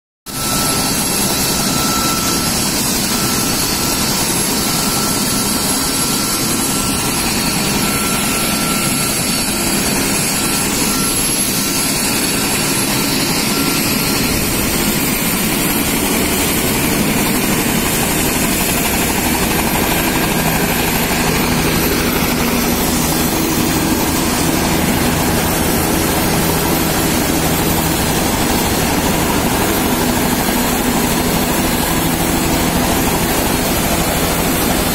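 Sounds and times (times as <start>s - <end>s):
helicopter turbine and rotor: 0.3s - 34.9s
deeper hum: 0.4s - 34.9s.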